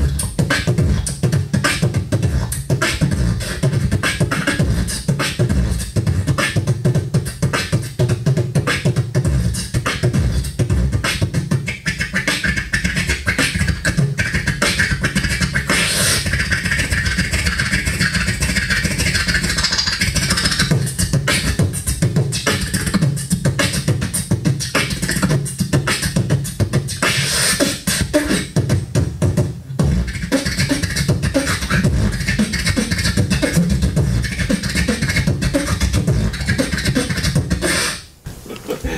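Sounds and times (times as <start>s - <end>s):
beatboxing into microphone: 0.0s - 38.9s.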